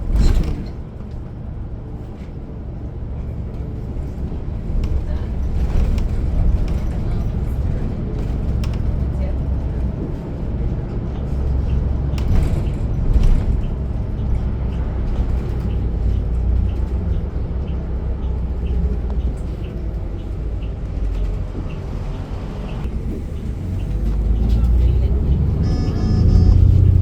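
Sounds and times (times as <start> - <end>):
bus engine and tyres rumbling: 0.0 - 27.0.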